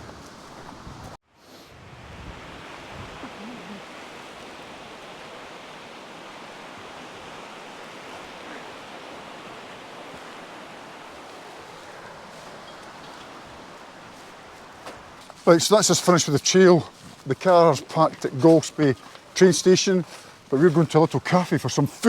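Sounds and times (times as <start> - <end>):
sea surf: 0.0 - 22.0
wind: 0.0 - 22.0.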